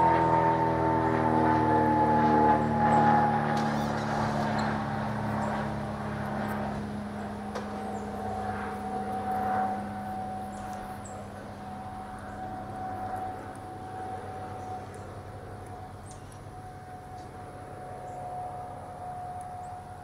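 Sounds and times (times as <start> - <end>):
engine running with whine: 0.0 - 20.0.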